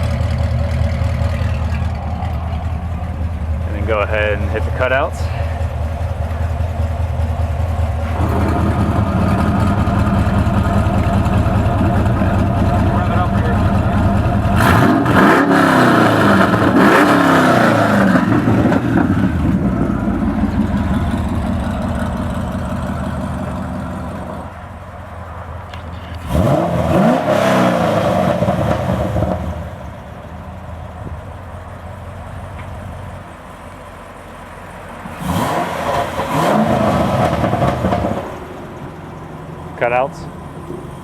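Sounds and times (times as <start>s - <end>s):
car engine idling: 0.0s - 41.0s
car engine revving: 0.0s - 41.0s.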